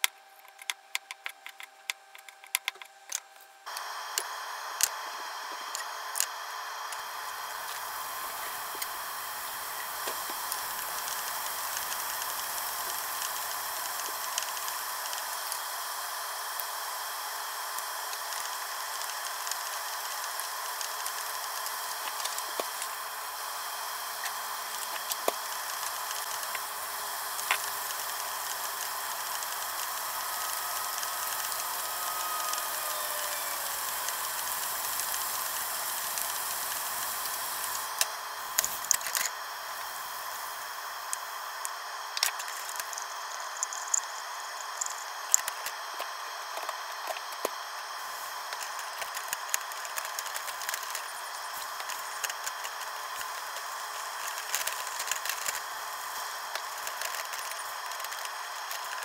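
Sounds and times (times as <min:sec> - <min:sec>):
mushrooms sizzling in frying pan: 0:03.8 - 0:59.0.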